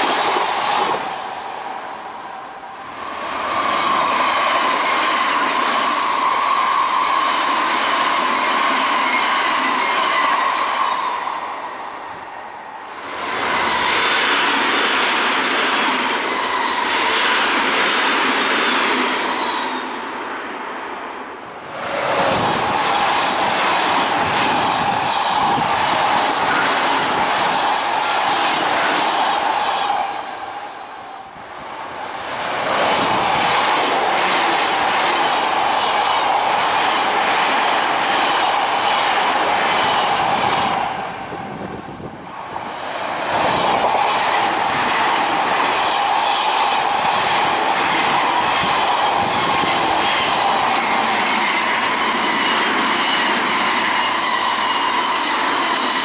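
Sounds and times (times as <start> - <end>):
trains passing on rails: 0.0 - 56.0.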